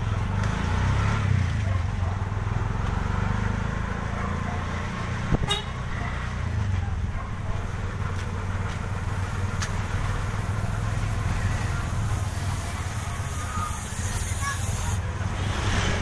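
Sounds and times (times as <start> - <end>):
vehicle engine low rumble: 0.0 - 16.0.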